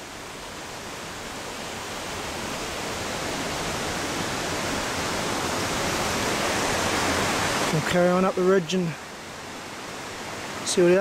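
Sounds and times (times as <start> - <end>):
wind rushing through bush: 0.0 - 11.0.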